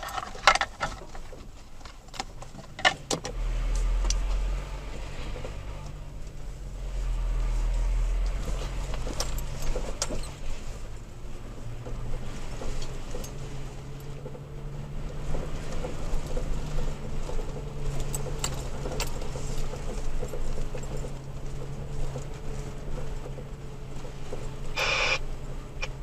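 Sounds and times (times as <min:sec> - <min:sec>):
truck engine running: 0:02.7 - 0:26.0.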